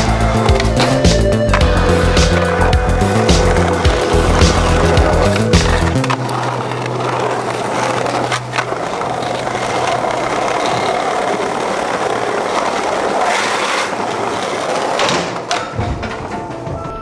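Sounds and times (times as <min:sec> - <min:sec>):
skateboard clack: 0:00.0 - 0:17.0
skateboard wheels rolling on paving: 0:00.0 - 0:17.0.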